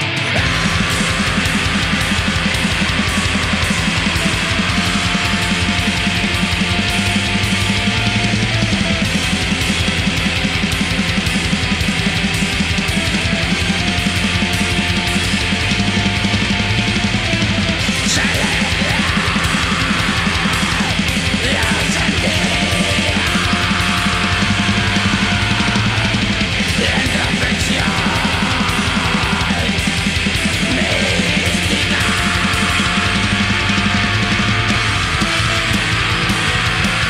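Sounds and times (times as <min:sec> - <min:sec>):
distorted electric guitars: 0:00.0 - 0:37.0
fast drumming: 0:00.0 - 0:37.0.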